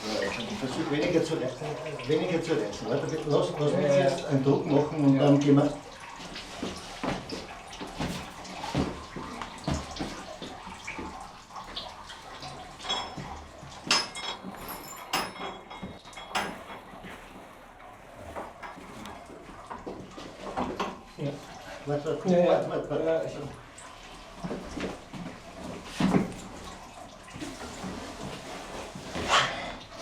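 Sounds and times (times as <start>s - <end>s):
running liquid: 0.0s - 30.0s.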